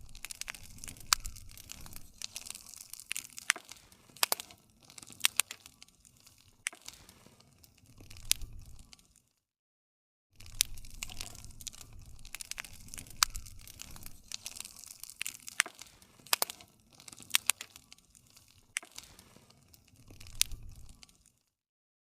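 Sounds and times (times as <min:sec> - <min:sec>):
wood fire crackling and popping: 0:00.0 - 0:09.4, 0:10.4 - 0:21.6.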